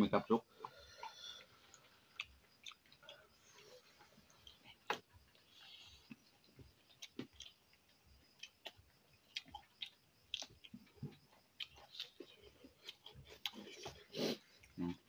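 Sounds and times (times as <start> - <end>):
chewing and lip smacks: 0.6 - 14.0.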